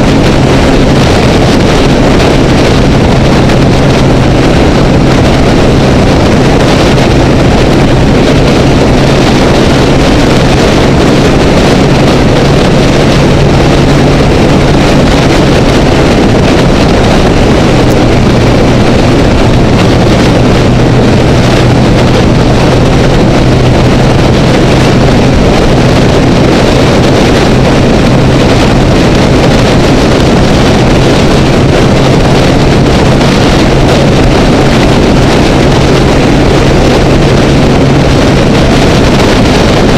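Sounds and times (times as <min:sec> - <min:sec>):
motorcycle engine running: 0:00.0 - 0:39.9
wind and road rush: 0:00.0 - 0:39.9.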